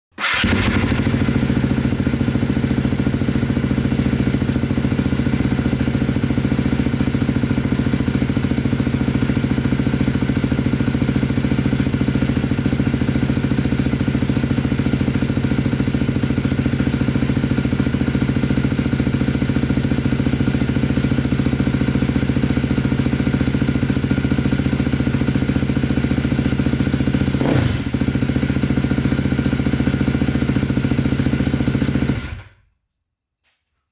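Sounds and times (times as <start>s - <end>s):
motorcycle engine idling: 0.2s - 32.4s.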